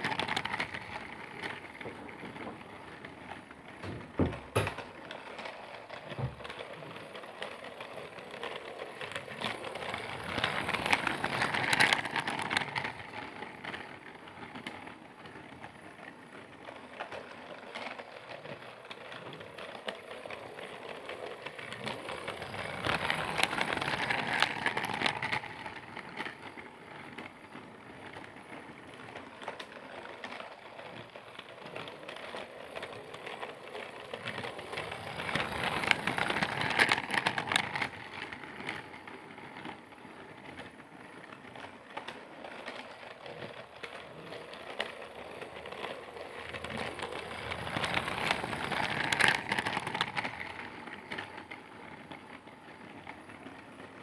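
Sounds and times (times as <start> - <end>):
toy train clattering on track: 0.0 - 54.0.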